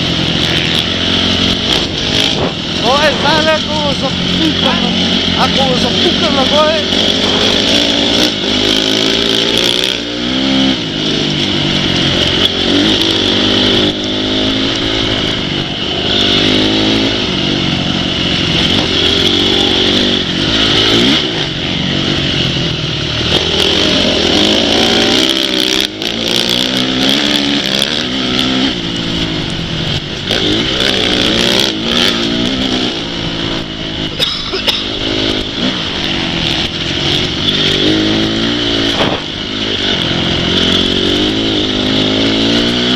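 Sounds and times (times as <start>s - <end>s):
motorcycle engines revving: 0.0s - 42.9s.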